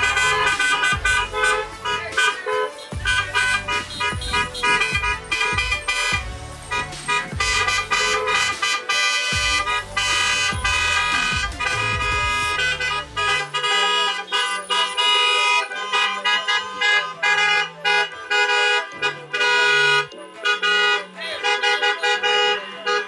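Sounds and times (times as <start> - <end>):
low vehicle rumble: 0.0 - 2.2, 3.0 - 8.6, 9.4 - 20.5
car horns honking: 0.0 - 23.0.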